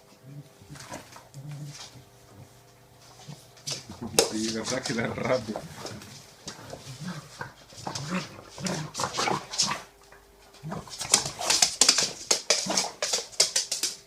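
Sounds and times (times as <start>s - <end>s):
animals scuffling: 0.0s - 14.0s.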